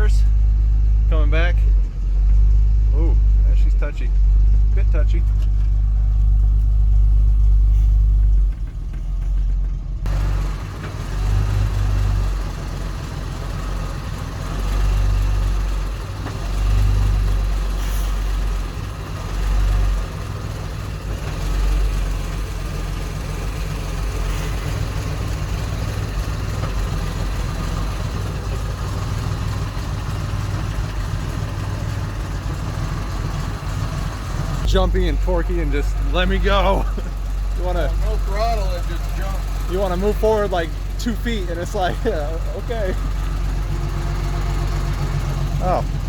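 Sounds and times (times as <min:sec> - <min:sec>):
fire truck engine running: 0:00.0 - 0:46.0.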